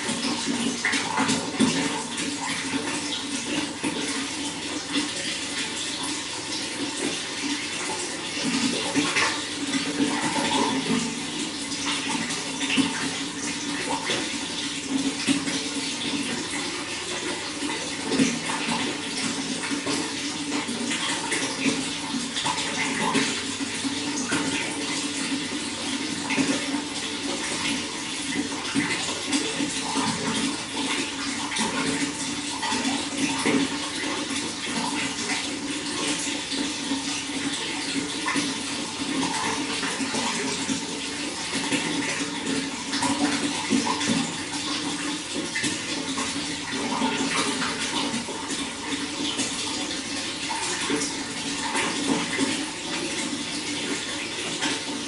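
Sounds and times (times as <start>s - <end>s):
running water splashing: 0.0s - 55.0s.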